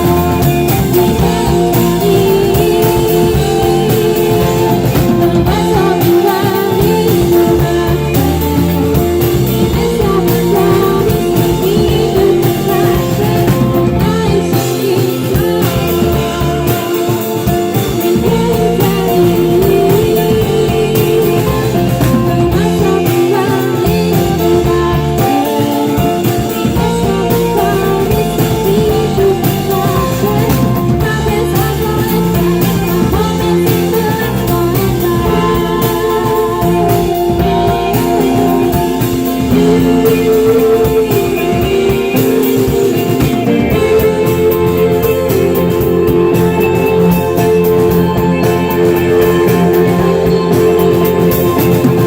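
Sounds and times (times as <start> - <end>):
electric guitars: 0.0 - 52.0
live rock band playing: 0.0 - 52.0.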